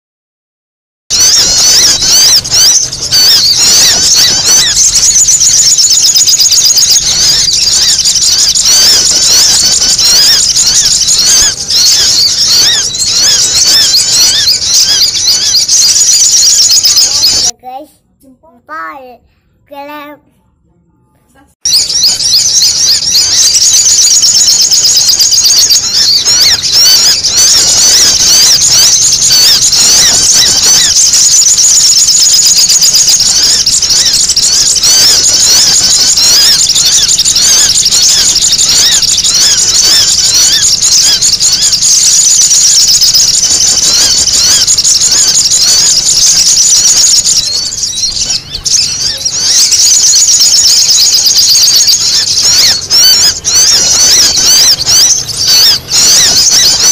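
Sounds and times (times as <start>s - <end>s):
flock of birds chirping: 1.1s - 17.8s, 21.6s - 56.9s.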